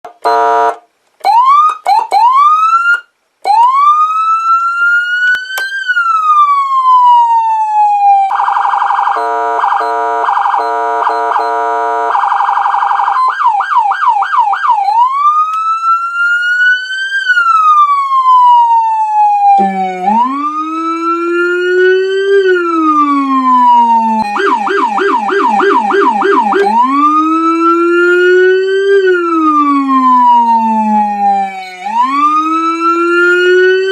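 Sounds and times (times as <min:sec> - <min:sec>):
electronic vehicle siren wailing: 0:01.2 - 0:33.9.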